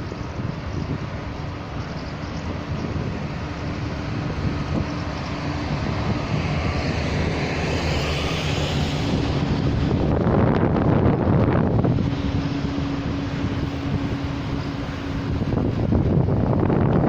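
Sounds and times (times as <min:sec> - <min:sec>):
road and wind noise: 0:00.0 - 0:17.0
vehicle engine hum: 0:00.0 - 0:17.0.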